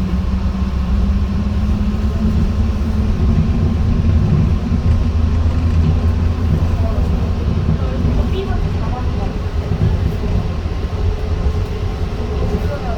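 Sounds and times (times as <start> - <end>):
train wheels and drive rumbling: 0.0 - 12.9.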